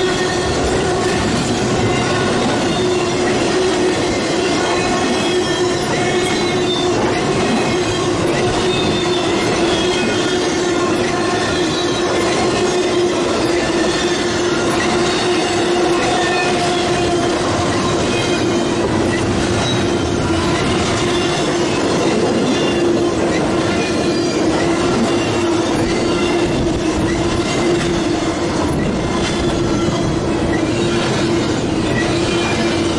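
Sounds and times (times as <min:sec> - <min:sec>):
steel wheels rumbling on rail: 0:00.0 - 0:32.9.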